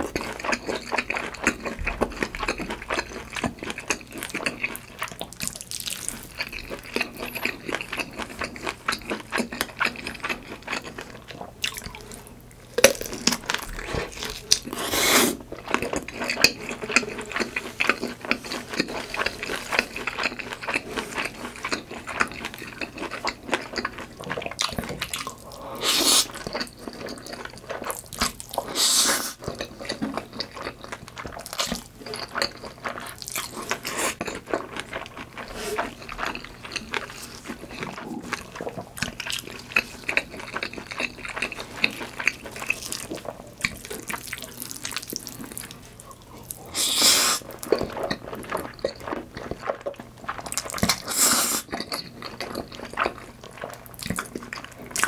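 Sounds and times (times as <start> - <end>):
wet sticky chewing: 0.0 - 55.0.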